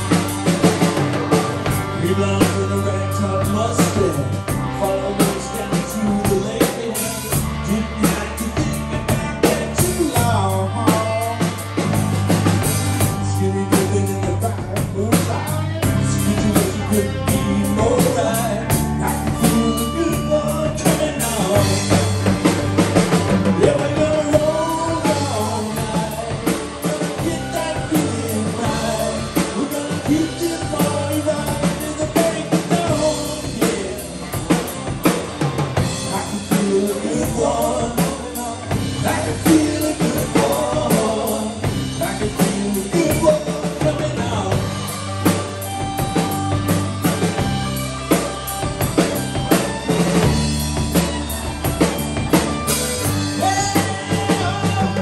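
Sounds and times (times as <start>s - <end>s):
bass guitar: 0.0s - 55.0s
drum kit beat: 0.0s - 55.0s
electric guitars: 0.0s - 55.0s
lead vocals: 0.0s - 55.0s.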